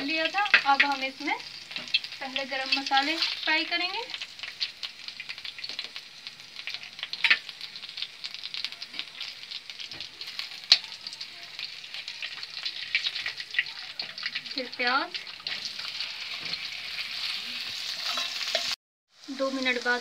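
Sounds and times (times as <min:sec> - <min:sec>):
spices sizzling in hot oil: 0:00.0 - 0:20.0.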